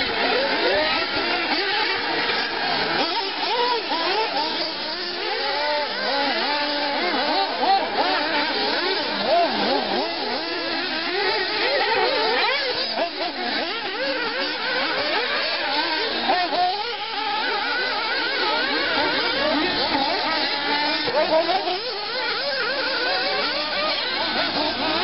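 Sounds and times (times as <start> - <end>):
rc car engines revving: 0.0 - 25.0.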